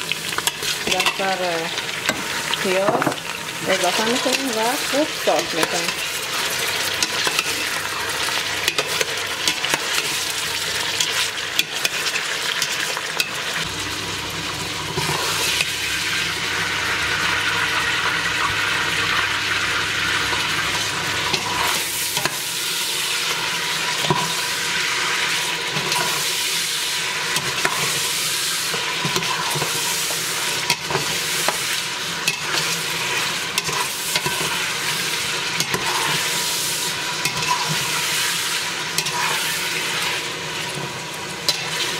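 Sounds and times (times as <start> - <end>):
meat sizzling in oil: 0.0 - 41.9.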